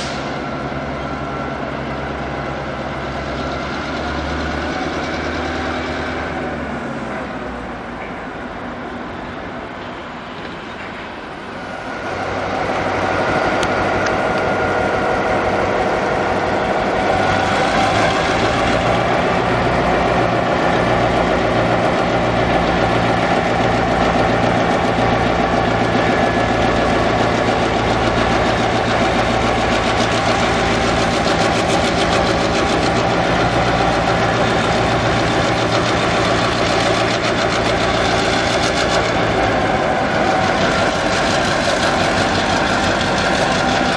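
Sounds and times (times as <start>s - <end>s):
diesel locomotive engine throbbing: 0.0s - 43.9s.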